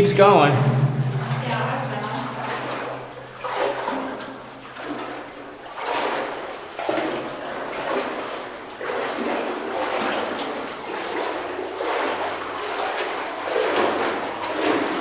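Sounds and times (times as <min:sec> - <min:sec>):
person wading through water: 0:00.5 - 0:15.0.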